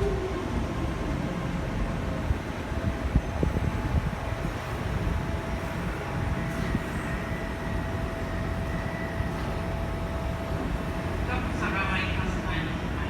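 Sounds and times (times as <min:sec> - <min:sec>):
train low rumble: 0:00.0 - 0:13.0
train whine: 0:00.0 - 0:13.0.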